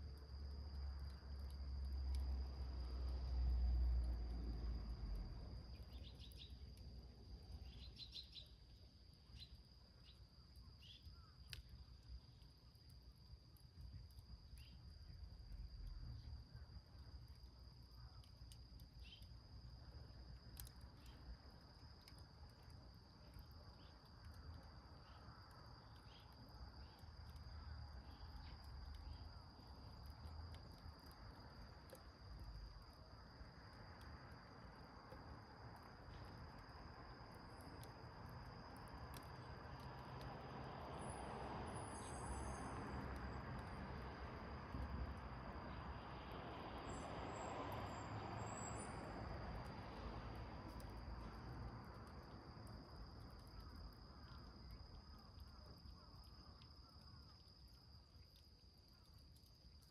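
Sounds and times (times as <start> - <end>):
crickets trilling: 0.0 - 59.9
small wood fire crackling: 0.0 - 59.9.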